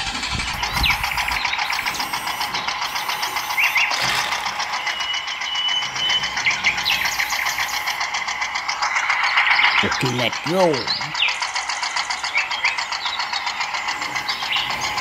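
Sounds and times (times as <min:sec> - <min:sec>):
small gear motor ticking: 0:00.0 - 0:09.7, 0:11.2 - 0:15.0.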